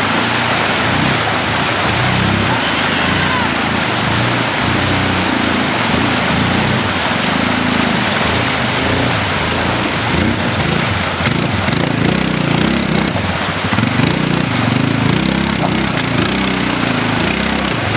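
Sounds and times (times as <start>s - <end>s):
quad bike engine revving: 0.0s - 17.9s
water rushing and splashing: 0.0s - 17.9s.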